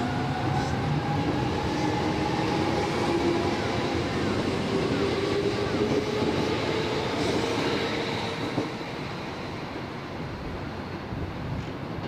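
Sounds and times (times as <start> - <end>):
steady train hum: 0.0 - 12.0.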